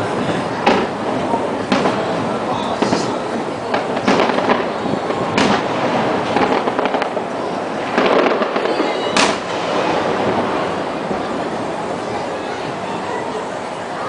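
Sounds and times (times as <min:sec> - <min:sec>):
background rumble: 0:00.0 - 0:14.0
fireworks bangs: 0:00.0 - 0:14.0
fireworks crackling: 0:00.0 - 0:14.0.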